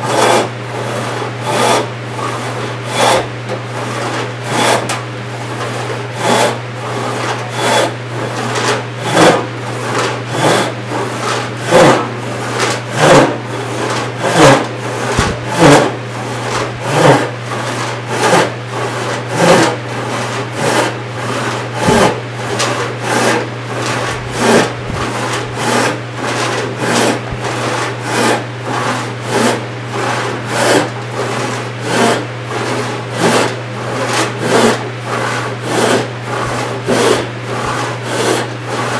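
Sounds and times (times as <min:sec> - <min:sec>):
hand saw rasping through wood: 0:00.0 - 0:38.9.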